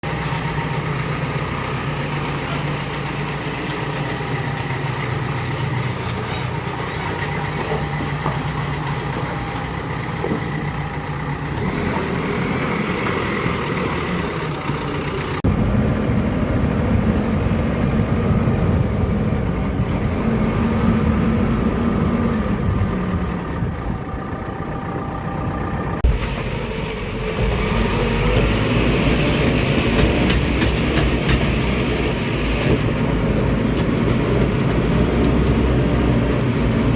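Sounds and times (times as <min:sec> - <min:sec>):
diesel machinery engine running: 0:00.0 - 0:36.9.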